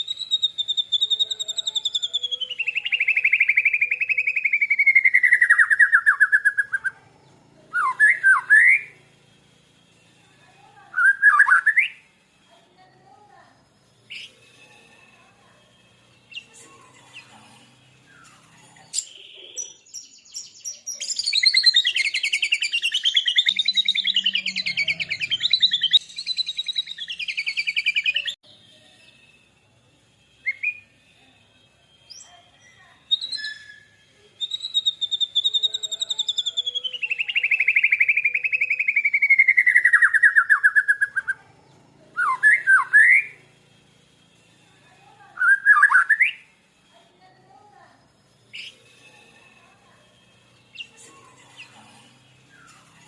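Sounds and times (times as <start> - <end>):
birds singing trills: 0.0 - 9.1, 9.8 - 29.3, 32.0 - 53.0.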